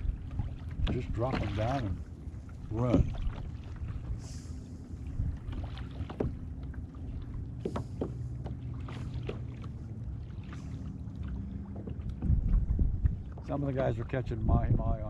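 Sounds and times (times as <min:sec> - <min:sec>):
low steady hum: 0:00.0 - 0:15.0
waves slapping kayak hull: 0:00.0 - 0:15.0.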